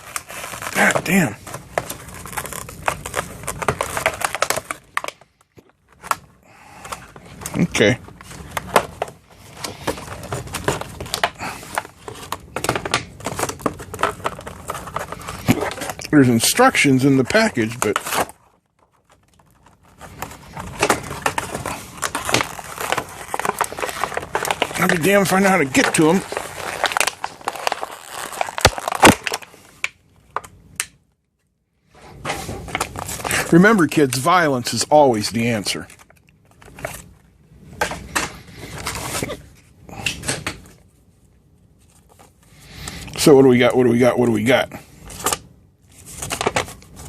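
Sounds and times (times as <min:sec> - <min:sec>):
plastic packaging crackling: 0:00.0 - 0:30.9, 0:32.4 - 0:39.4.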